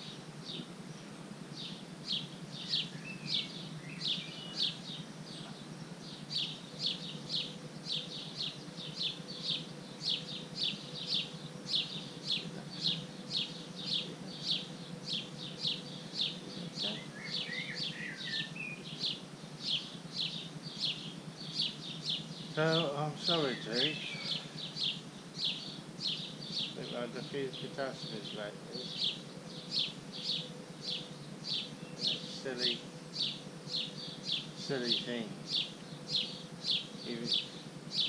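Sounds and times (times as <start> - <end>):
small bird chirping: 0.0 - 38.0.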